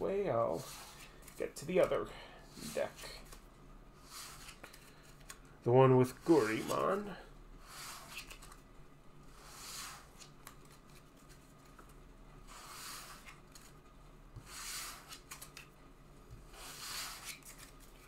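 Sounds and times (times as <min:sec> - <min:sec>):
cards rustling against table: 0:00.6 - 0:02.0, 0:02.6 - 0:05.5, 0:06.2 - 0:08.6, 0:09.4 - 0:15.7, 0:16.4 - 0:18.0.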